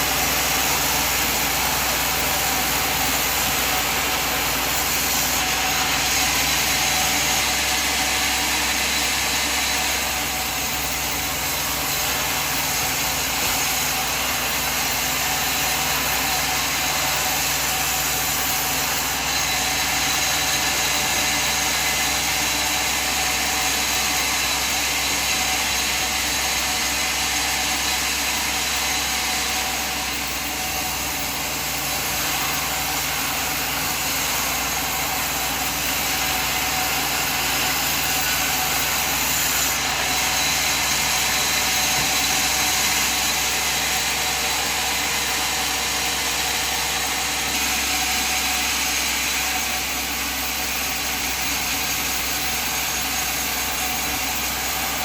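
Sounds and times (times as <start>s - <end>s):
sawmill machine running: 0.0s - 55.0s.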